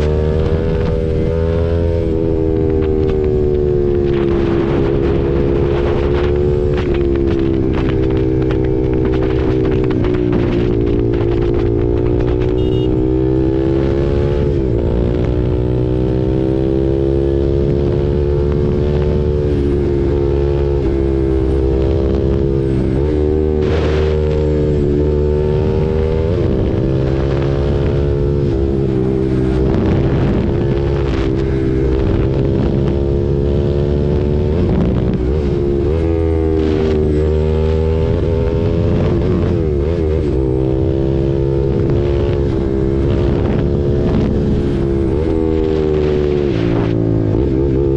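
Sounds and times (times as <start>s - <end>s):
motorcycle engine running: 0.0s - 47.9s
wind noise on microphone: 0.0s - 47.9s.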